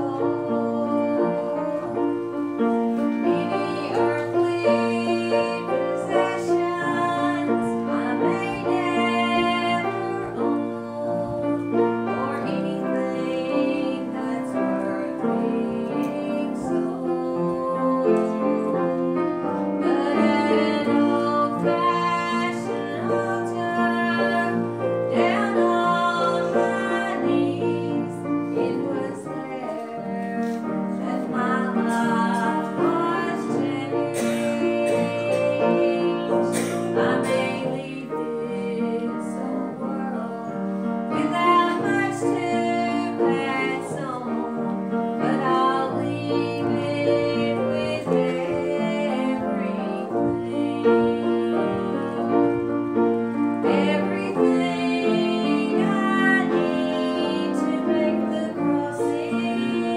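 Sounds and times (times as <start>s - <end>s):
grand piano: 0.0s - 59.9s
woman singing: 0.0s - 59.9s.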